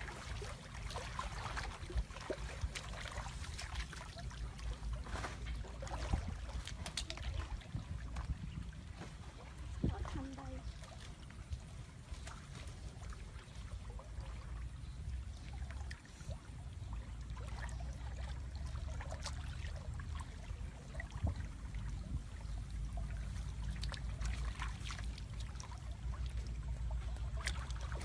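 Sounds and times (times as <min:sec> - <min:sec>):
muddy water splashing: 0:00.0 - 0:28.0.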